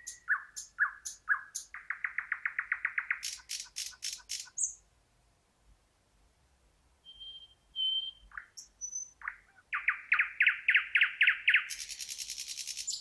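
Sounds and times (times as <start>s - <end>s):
bird singing: 0.0s - 4.8s, 7.0s - 13.0s.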